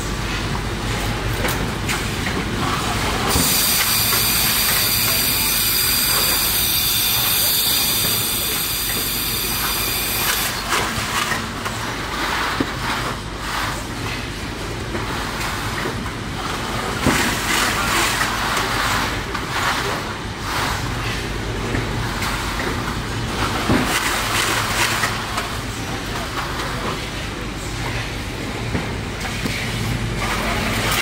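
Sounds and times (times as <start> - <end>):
steady low machinery hum: 0.0 - 31.0.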